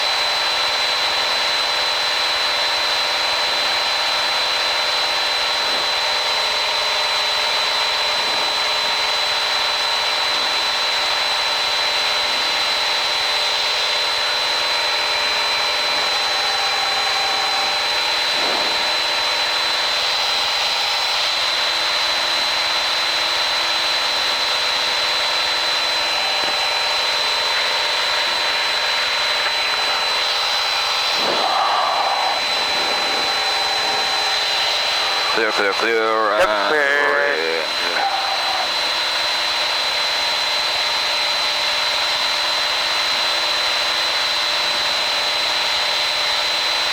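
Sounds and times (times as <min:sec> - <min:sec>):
aircraft engine droning: 0:00.0 - 0:45.6
high-pitched whine: 0:00.0 - 0:46.5.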